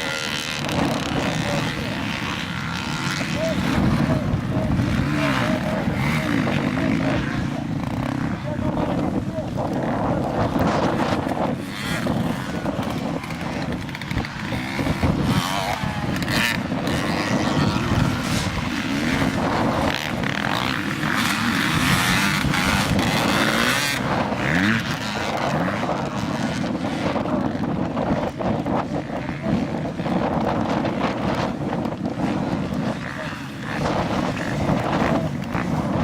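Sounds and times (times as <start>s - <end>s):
motocross engines revving: 0.0s - 36.0s.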